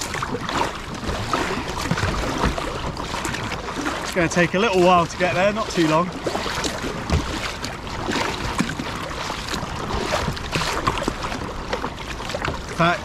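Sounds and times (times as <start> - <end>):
kayak paddle pulling through water: 0.0 - 13.0
water splashing and dripping: 0.0 - 13.0.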